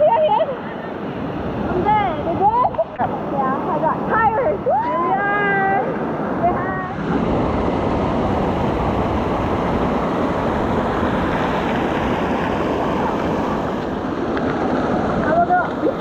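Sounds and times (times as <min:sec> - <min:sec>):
waterfall rushing into pool: 0:01.7 - 0:16.0.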